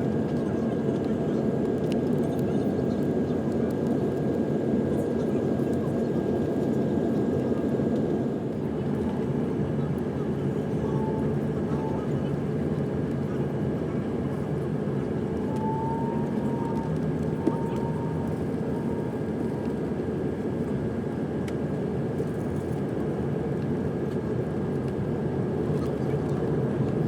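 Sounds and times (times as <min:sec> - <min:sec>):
airliner cabin engine rush: 0:00.0 - 0:27.0.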